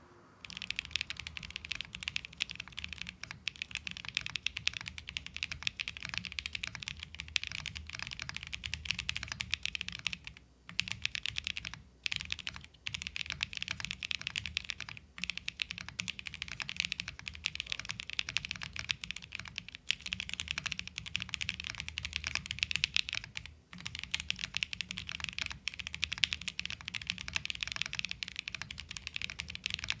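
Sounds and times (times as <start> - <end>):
fast typing on mechanical keyboard: 0.4 - 30.0.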